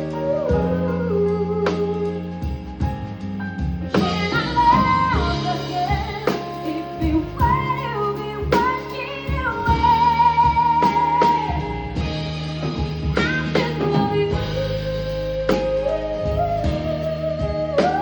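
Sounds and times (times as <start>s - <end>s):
live band playing jazz-pop: 0.0s - 18.0s.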